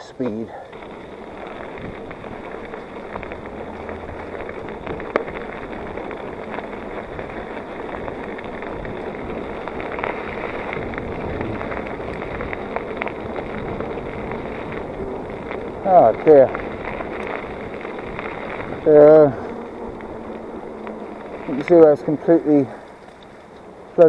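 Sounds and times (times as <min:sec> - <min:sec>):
bike tyres rumbling on trail: 0:00.0 - 0:24.0
bike clicks and knocks: 0:00.1 - 0:24.0.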